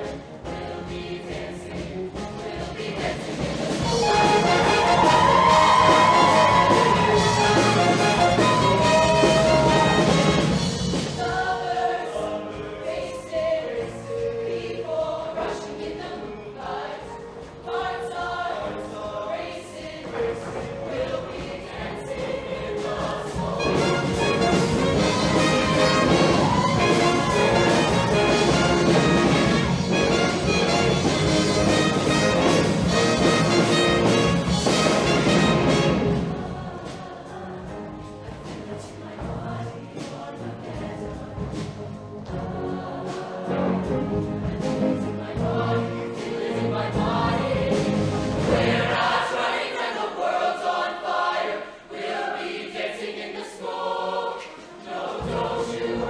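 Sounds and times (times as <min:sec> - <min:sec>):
instrumental accompaniment: 0:00.0 - 0:49.5
choir singing: 0:00.0 - 0:56.0.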